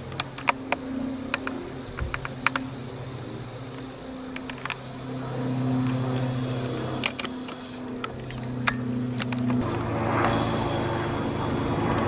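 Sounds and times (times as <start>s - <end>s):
sharp clicks and ticks: 0.0s - 3.0s, 3.7s - 10.5s, 11.7s - 12.0s
electric train humming: 0.0s - 12.0s
higher hum: 0.0s - 12.0s.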